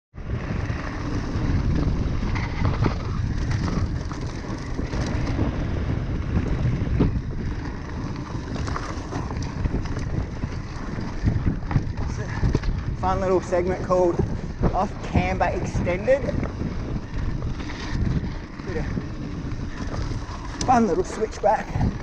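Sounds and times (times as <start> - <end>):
wind buffeting microphone: 0.2 - 22.0
bike clicks and rattles: 0.3 - 22.0.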